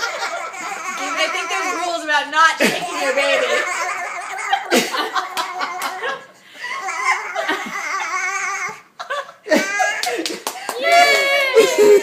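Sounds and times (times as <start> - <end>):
people laughing: 0.0 - 1.9, 2.6 - 12.0
baby laughing: 0.0 - 10.6.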